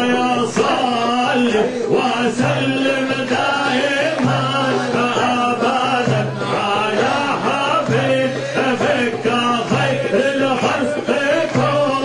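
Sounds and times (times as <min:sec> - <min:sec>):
group of men chanting: 0:00.0 - 0:12.0.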